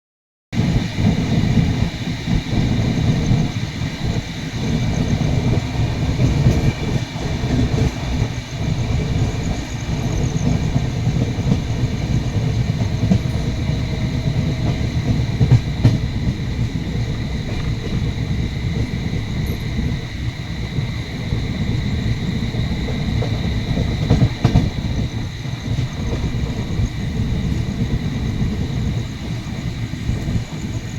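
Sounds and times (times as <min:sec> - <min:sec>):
passenger train rumbling: 0:00.6 - 0:30.9
train wheels on rails: 0:00.6 - 0:30.9.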